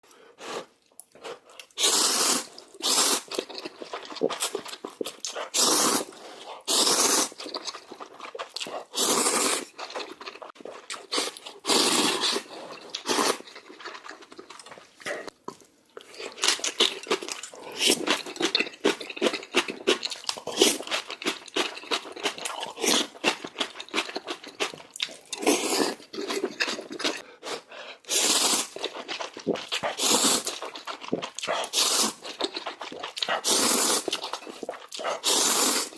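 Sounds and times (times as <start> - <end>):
noodles being slurped: 0.4 - 15.4, 16.0 - 35.9
wet chewing and smacking: 2.5 - 27.6, 28.6 - 35.9.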